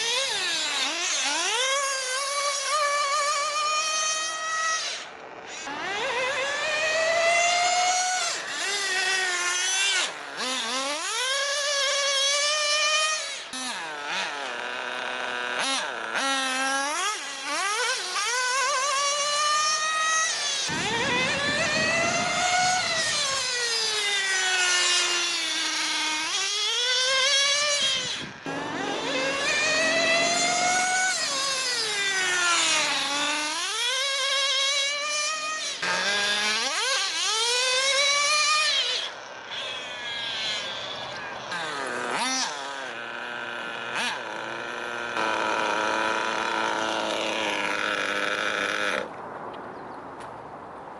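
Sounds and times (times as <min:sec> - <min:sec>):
small two-stroke engine revving: 0:00.0 - 0:49.2.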